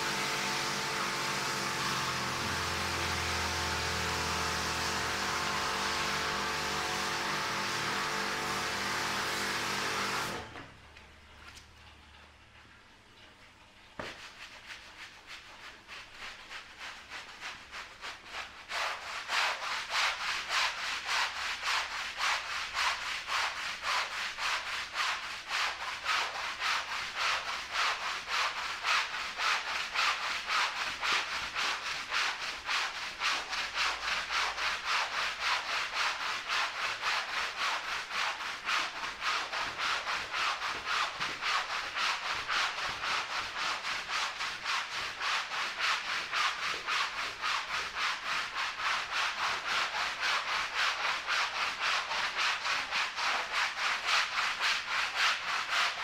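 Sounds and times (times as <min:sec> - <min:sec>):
push broom scrubbing wet rug: 0:00.0 - 0:10.7, 0:14.0 - 0:56.0.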